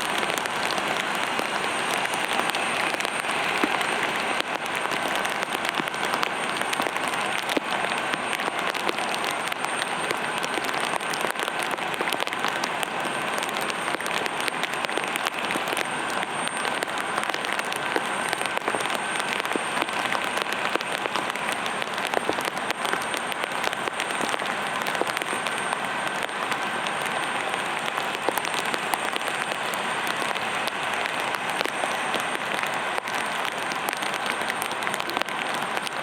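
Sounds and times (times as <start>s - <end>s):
rain pattering on hard surface: 0.0s - 36.0s.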